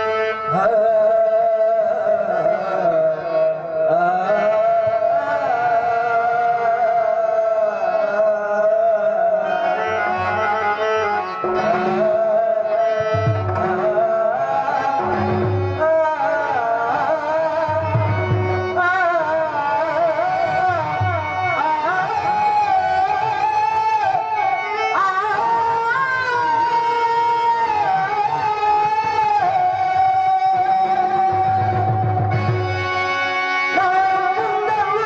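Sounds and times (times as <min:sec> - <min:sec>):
harmonium held notes: 0:00.0 - 0:35.0
man singing into a microphone: 0:00.0 - 0:35.0
tabla: 0:00.0 - 0:35.0.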